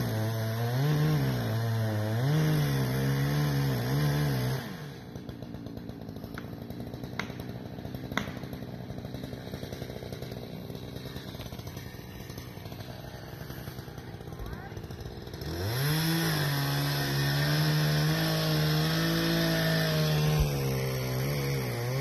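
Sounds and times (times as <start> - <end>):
chainsaw cutting wood: 0.0 - 22.0
chainsaw idling: 0.0 - 22.0.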